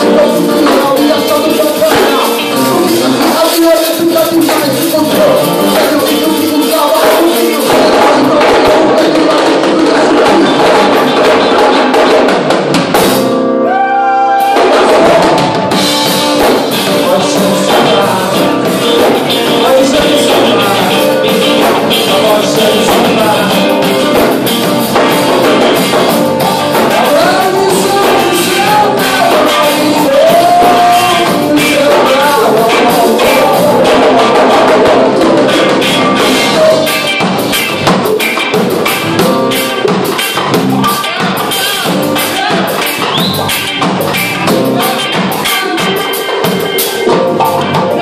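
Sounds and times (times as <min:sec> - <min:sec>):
person singing: 0:00.0 - 0:11.9, 0:13.6 - 0:38.7, 0:39.5 - 0:43.7, 0:44.4 - 0:48.0
drum kit beat: 0:00.0 - 0:48.0
guitars and bass: 0:00.0 - 0:48.0.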